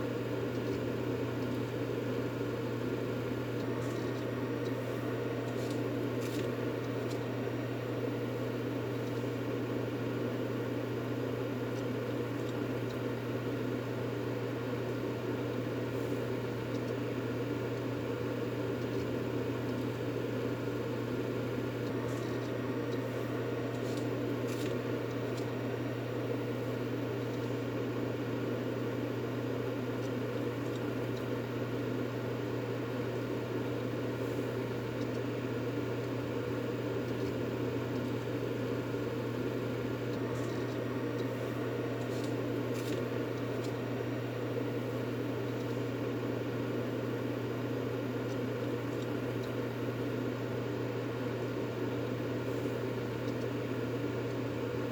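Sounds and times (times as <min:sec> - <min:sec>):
white noise hum and hiss: 0:00.0 - 0:54.9.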